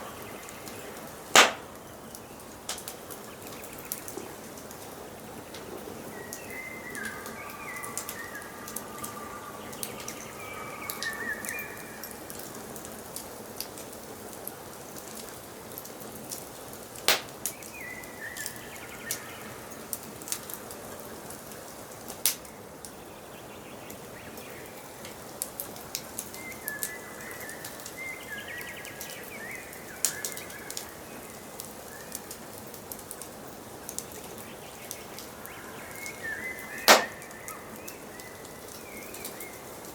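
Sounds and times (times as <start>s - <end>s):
wood fire crackling and popping: 0.0s - 5.7s, 6.3s - 20.8s, 21.4s - 23.0s, 24.3s - 39.9s
forest birds singing: 0.0s - 12.8s, 17.1s - 25.3s, 26.0s - 32.6s, 33.9s - 39.9s.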